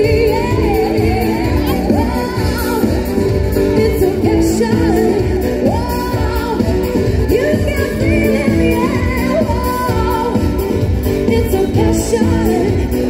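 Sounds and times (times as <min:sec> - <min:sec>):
song over pulsing beat: 0:00.0 - 0:13.0.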